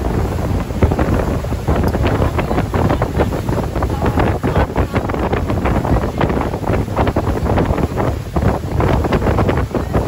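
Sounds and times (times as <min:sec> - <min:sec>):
low rumble of boat and water: 0:00.0 - 0:10.0
wind buffeting microphone: 0:00.0 - 0:10.0.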